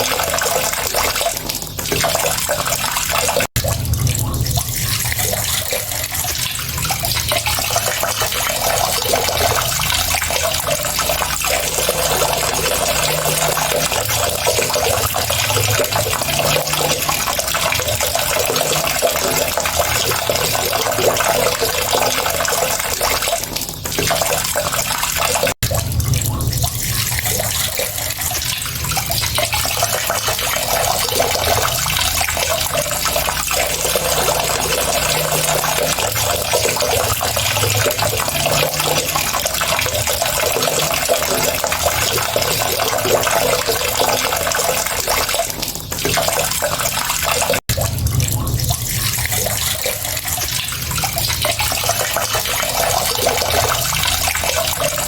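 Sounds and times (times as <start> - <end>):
water running from a tap: 0.0 - 55.0.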